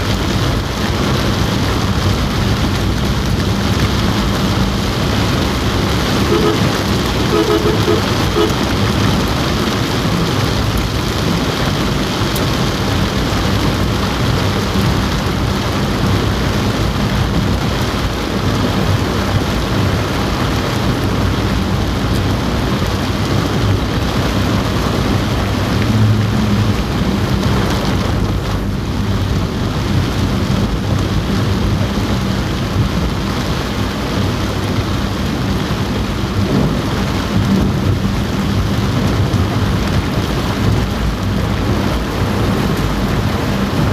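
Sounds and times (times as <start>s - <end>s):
heavy rain on a car roof: 0.0s - 43.9s.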